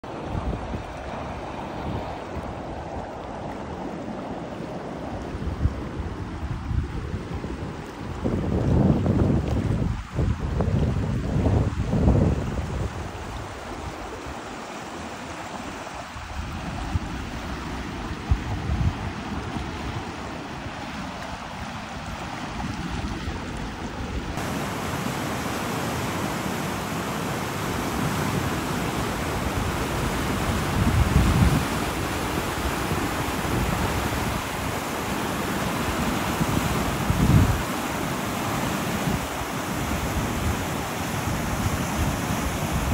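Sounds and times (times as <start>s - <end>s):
river rushing over rapids: 0.0s - 6.7s, 11.2s - 42.9s
wind buffeting microphone: 0.0s - 14.5s, 16.0s - 42.9s.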